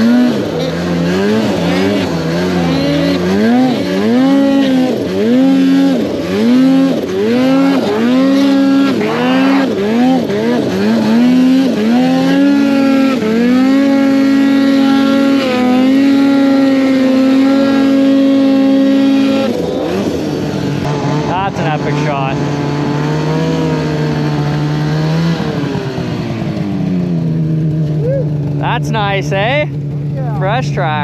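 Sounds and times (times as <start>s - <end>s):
snowmobile engine revving: 0.0s - 31.0s.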